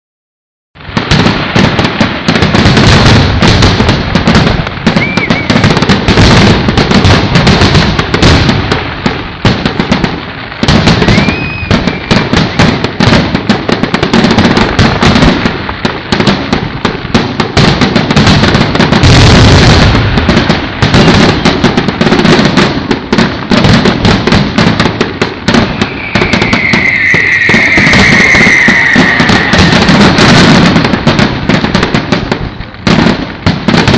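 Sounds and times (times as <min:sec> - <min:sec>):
fireworks crackling and booming: 0:00.8 - 0:33.9
whistling firework: 0:00.8 - 0:33.9.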